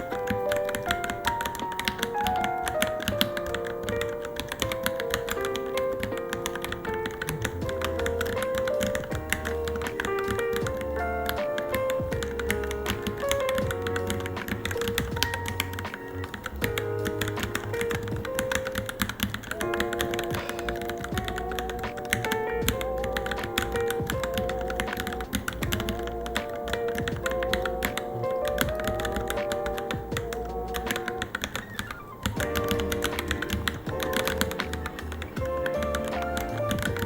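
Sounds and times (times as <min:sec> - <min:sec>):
background music melody: 0:00.0 - 0:37.0
mechanical keyboard typing: 0:00.0 - 0:37.0.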